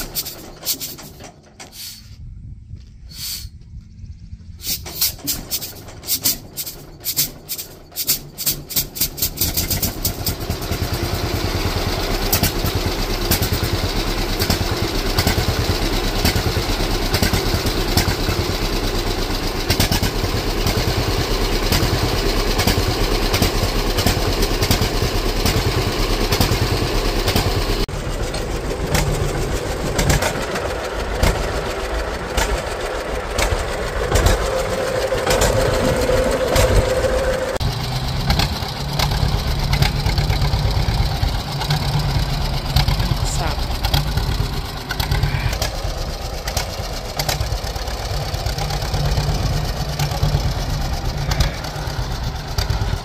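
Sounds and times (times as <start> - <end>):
tractor engine pulsing: 0.0 - 2.2, 4.4 - 53.0.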